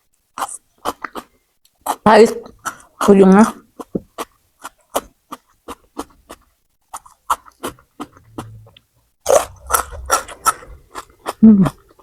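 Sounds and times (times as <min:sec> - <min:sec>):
chewing crunchy vegetables: 0:00.3 - 0:12.0.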